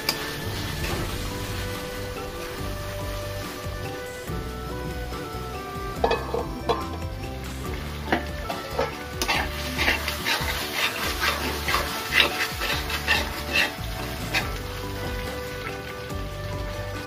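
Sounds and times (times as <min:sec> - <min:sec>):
metal spatula scraping a pan: 0:00.0 - 0:04.4, 0:05.7 - 0:16.1
background music: 0:00.0 - 0:17.0.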